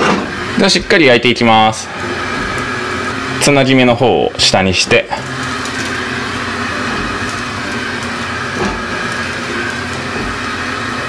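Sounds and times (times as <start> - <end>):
frying pan hissing: 0.0 - 11.0
gas stove low hum: 0.0 - 11.0.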